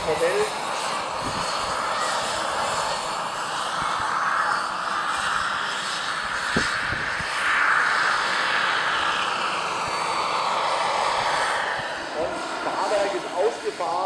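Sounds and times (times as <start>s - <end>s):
model helicopter rotor noise: 0.0s - 14.0s.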